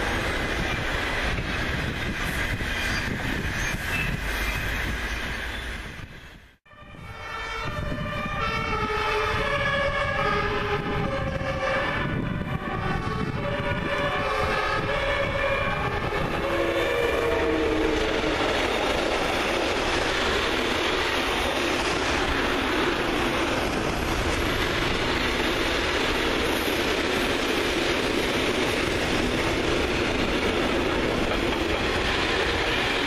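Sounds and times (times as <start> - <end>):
train wheels rumbling on rail: 0.0 - 6.6, 7.6 - 33.0
electric locomotive whine: 0.0 - 33.0.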